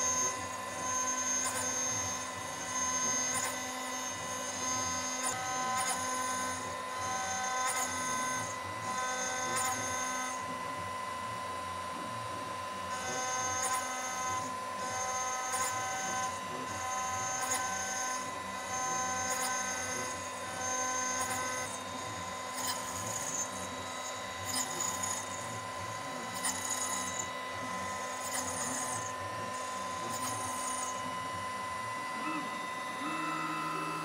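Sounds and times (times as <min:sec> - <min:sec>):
high-pitched metal cutting: 0:00.0 - 0:11.2, 0:12.6 - 0:34.0
cnc spindle whine: 0:00.0 - 0:34.0.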